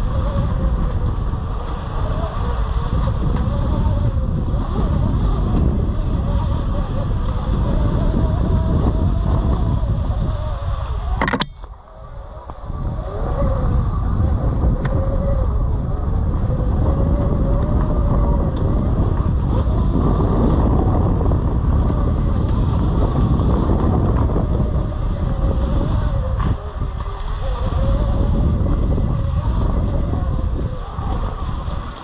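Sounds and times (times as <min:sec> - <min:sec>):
electric motor whining: 0:00.0 - 0:32.0
wind buffeting microphone: 0:00.0 - 0:32.0.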